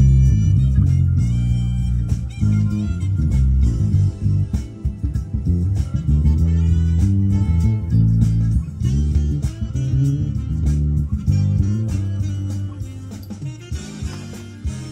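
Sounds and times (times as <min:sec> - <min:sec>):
electric bass jazz line: 0:00.0 - 0:14.9
jazz recording with drums: 0:00.0 - 0:14.9.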